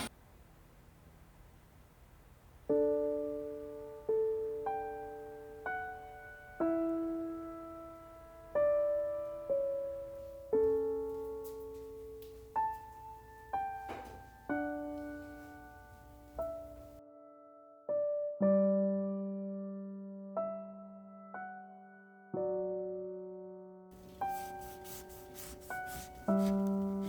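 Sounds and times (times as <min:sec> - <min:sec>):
slow solo piano music: 0:02.6 - 0:27.0.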